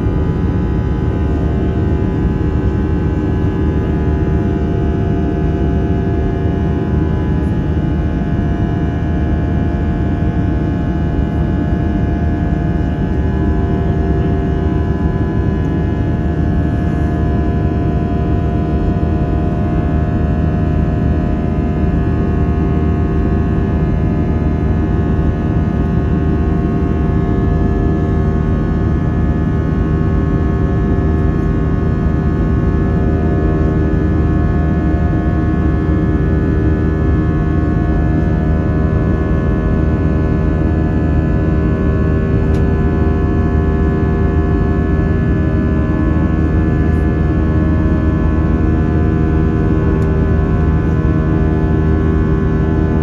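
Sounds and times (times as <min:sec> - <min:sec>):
jet engine cabin rumble: 0:00.0 - 0:53.0.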